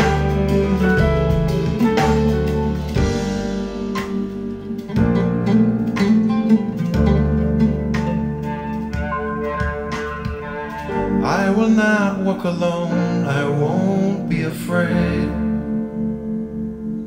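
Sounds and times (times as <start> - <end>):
plucked strings: 0.0 - 15.3
deep bass notes: 0.0 - 17.0.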